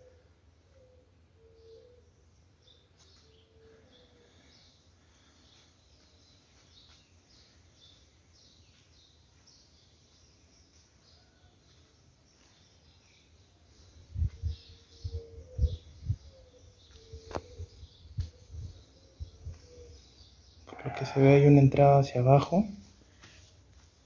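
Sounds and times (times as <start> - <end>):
faint bird chirping: 0.0 - 24.0.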